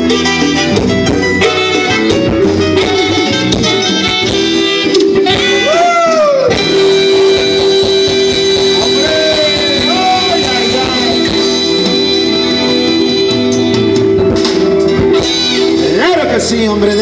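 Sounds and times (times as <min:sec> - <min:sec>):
electric guitar note sliding: 0:00.0 - 0:15.9
live band playing loud: 0:00.0 - 0:17.0.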